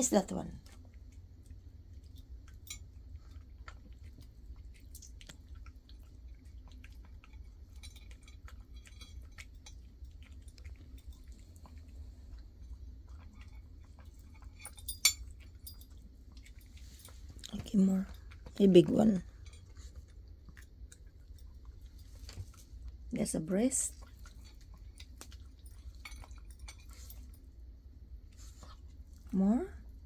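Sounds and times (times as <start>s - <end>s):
pet chewing: 0.0s - 30.0s.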